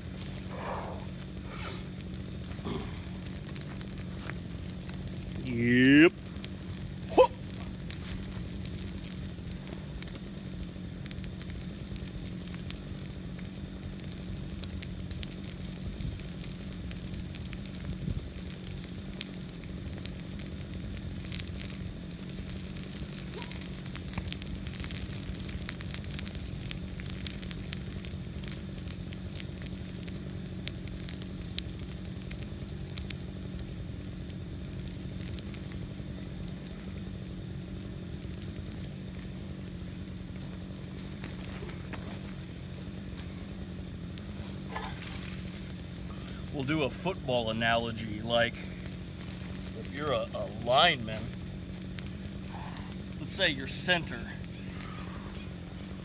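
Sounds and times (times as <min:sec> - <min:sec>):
branches burning with crackles: 0:00.0 - 0:56.0
low hum: 0:00.0 - 0:56.0
sizzling hiss of fire: 0:00.0 - 0:56.0.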